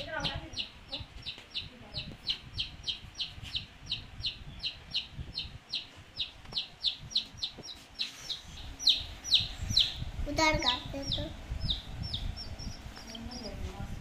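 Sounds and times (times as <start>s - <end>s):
baby chick peeping: 0.0s - 14.0s.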